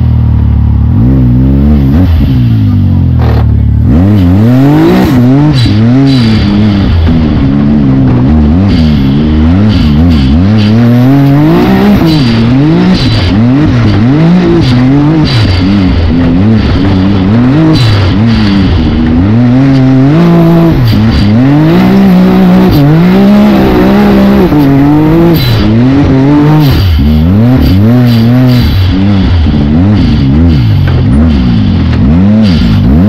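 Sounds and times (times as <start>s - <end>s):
engine revving: 0.0s - 33.0s.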